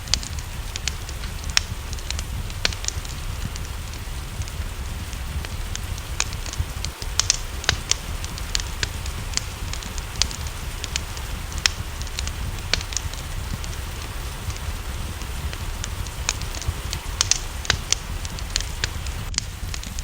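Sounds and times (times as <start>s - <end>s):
low rumble: 0.0s - 20.0s
rain hissing: 0.0s - 20.0s
wood fire crackling: 0.0s - 20.0s.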